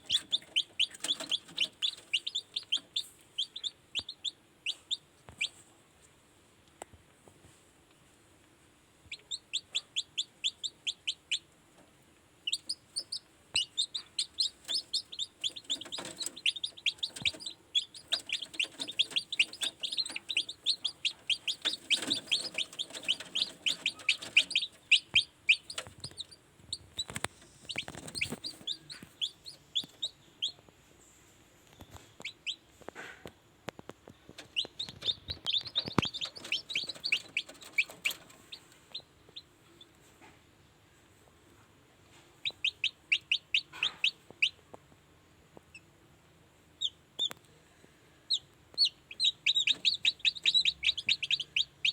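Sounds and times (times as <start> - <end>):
chicks peeping: 0.0 - 5.8, 9.0 - 30.7, 31.6 - 32.9, 33.7 - 40.2, 42.4 - 44.7, 46.8 - 47.5, 48.3 - 51.9.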